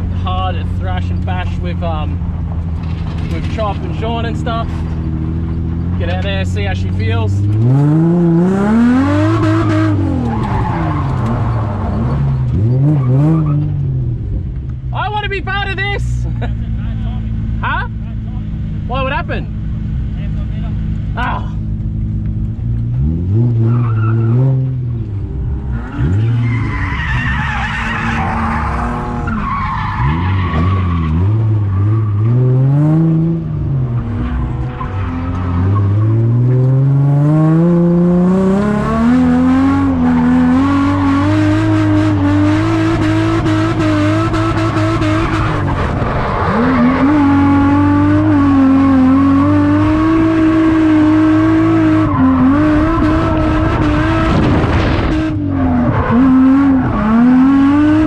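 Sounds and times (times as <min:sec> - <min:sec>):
car engine revving: 0:00.0 - 0:14.8, 0:16.4 - 0:58.0.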